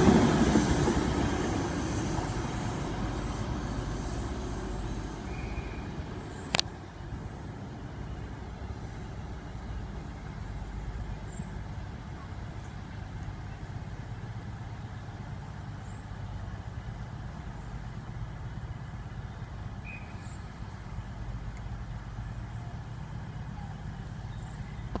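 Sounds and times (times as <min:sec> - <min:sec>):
diesel train engine droning: 0:00.0 - 0:25.0.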